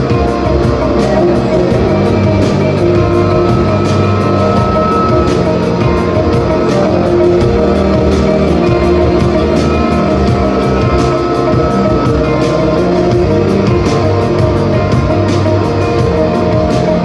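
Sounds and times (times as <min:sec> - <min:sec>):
drum kit with cymbals: 0:00.0 - 0:17.0
electric guitars: 0:00.0 - 0:17.0.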